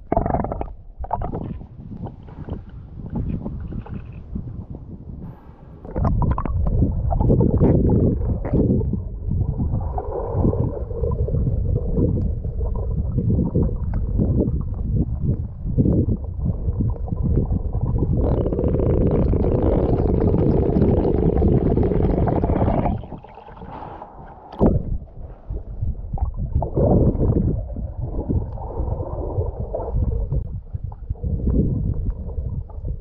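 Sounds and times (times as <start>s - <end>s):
water rumbling and gurgling underwater: 0.0s - 33.0s.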